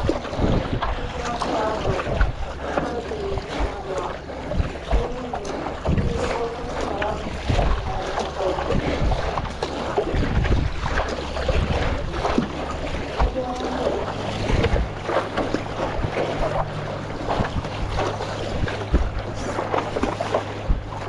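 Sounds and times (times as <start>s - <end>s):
water splashing and sloshing: 0.0s - 21.0s
wind buffeting microphone: 0.0s - 21.0s.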